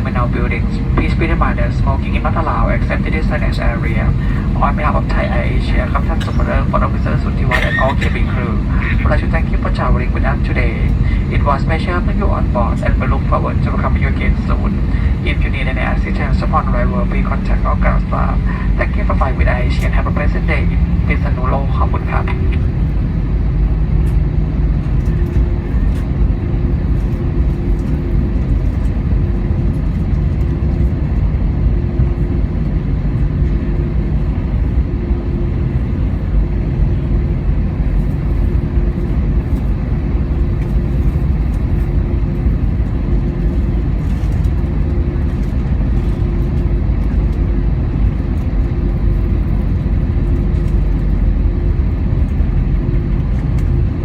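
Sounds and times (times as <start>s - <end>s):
constant hum: 0.0s - 54.0s
jet engines idling: 0.0s - 54.0s
low airframe rumble: 0.0s - 54.0s.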